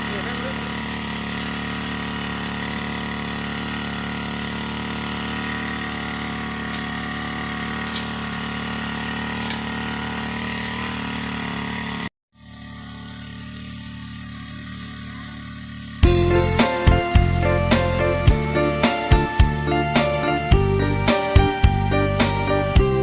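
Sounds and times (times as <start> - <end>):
brush cutter engine cutting grass: 0.0 - 23.0.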